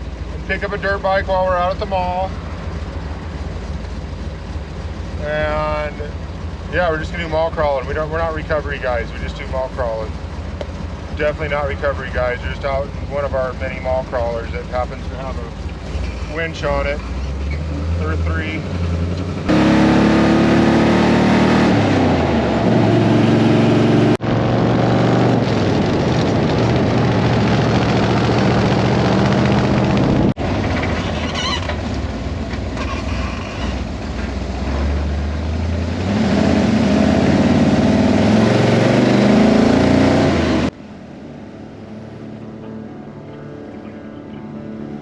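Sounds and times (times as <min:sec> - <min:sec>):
vehicle engine revving: 0:00.0 - 0:42.7.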